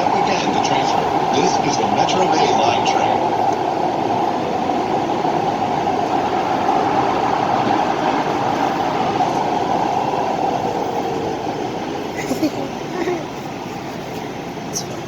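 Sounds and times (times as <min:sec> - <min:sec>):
train car running rumble: 0:00.0 - 0:15.0.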